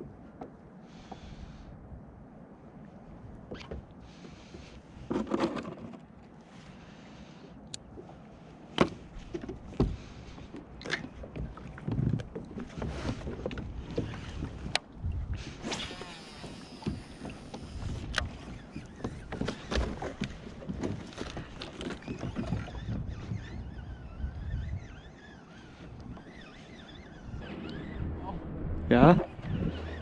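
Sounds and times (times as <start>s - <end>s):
water sloshing against hull: 0.0s - 30.0s.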